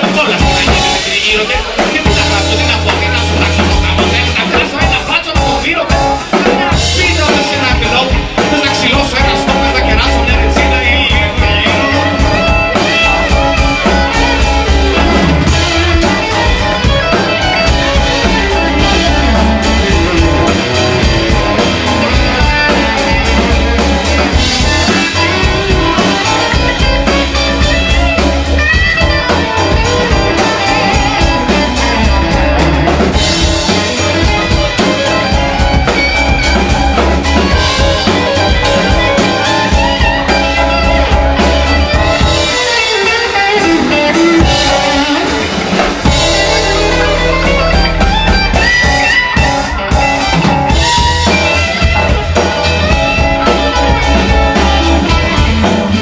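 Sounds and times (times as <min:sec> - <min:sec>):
drums: 0:00.0 - 0:56.0
keyboard: 0:00.0 - 0:56.0
strummed guitar: 0:00.0 - 0:56.0.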